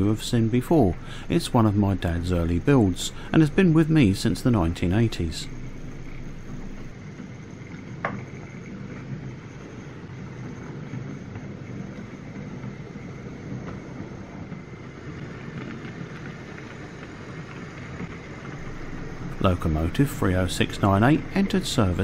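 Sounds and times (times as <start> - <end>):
model train rumbling on track: 0.0 - 22.0.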